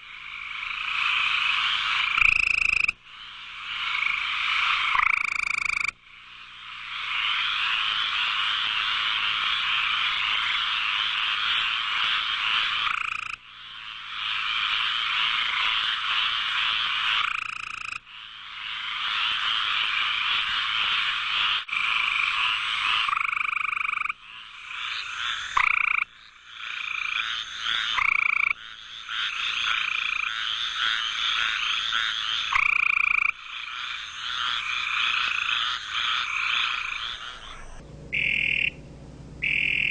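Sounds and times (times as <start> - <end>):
toads trilling: 0.0 - 38.8, 39.4 - 39.9.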